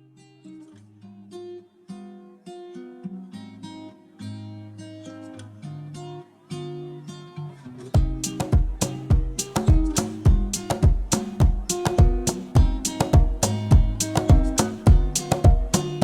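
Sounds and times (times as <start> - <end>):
acoustic guitar plucked notes: 0.0 - 16.0.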